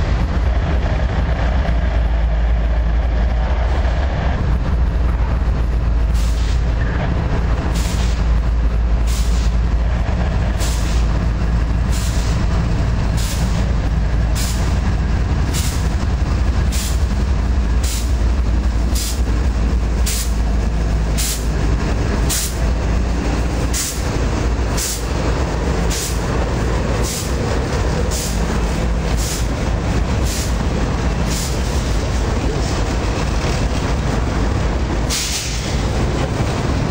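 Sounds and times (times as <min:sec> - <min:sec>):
freight train rumble: 0:00.0 - 0:36.9.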